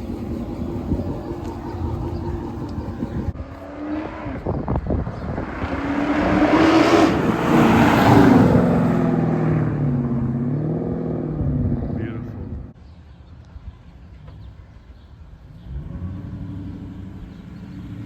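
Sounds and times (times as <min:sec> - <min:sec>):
car engine accelerating: 0:00.0 - 0:12.7, 0:15.5 - 0:18.0.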